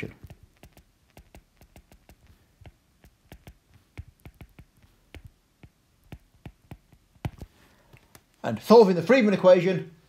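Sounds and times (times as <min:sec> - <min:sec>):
stylus tapping on glass screen: 0:00.0 - 0:08.3.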